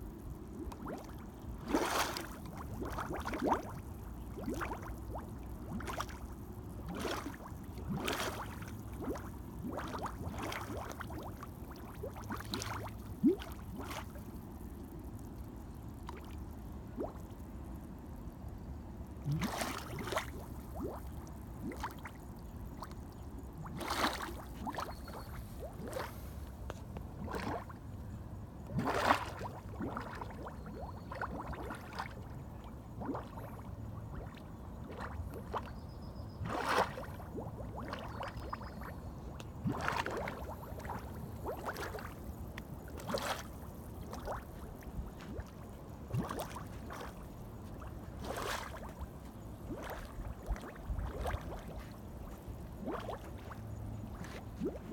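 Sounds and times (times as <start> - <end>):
mud gurgling and plopping: 0.1 - 14.6, 16.9 - 17.2, 19.2 - 27.8, 28.6 - 54.9.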